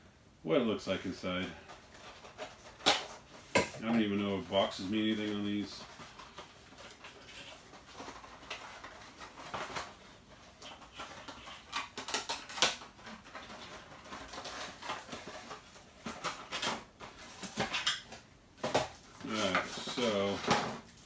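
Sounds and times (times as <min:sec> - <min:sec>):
cardboard rustling and scraping: 0:01.2 - 0:21.0.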